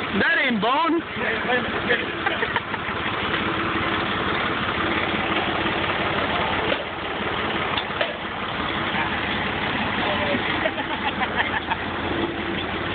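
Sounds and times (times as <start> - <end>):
truck engine idling: 0.0 - 12.9.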